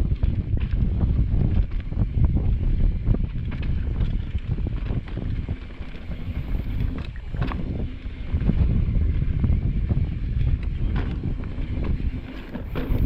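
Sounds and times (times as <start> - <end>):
bike rattling over bumps: 0.0 - 13.0
wind buffeting microphone: 0.0 - 13.0.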